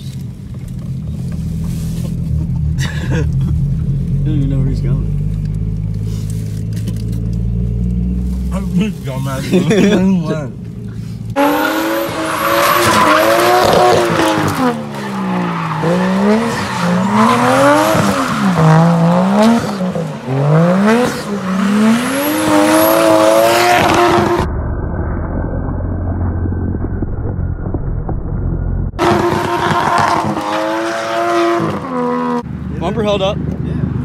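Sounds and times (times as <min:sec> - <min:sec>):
car engine revving: 0:00.8 - 0:24.5, 0:28.9 - 0:33.2.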